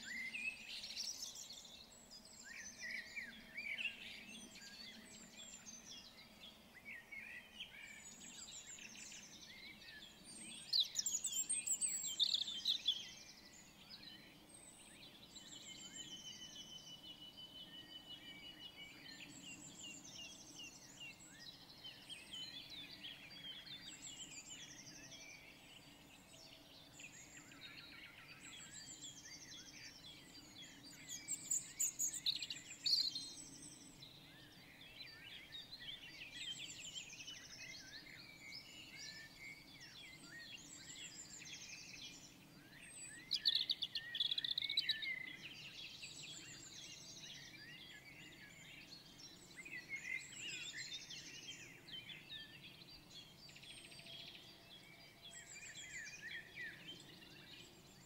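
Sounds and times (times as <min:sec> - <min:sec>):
birds singing and calling: 0:00.0 - 0:58.0.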